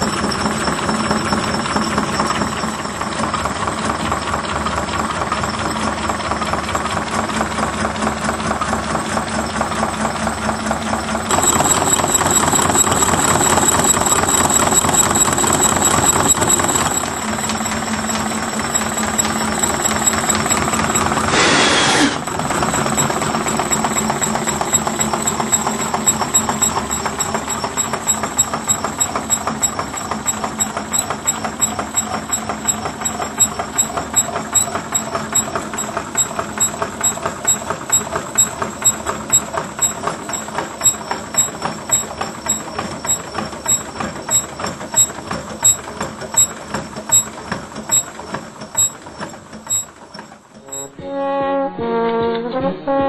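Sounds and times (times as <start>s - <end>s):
small engine mechanical clatter: 0.0s - 51.0s.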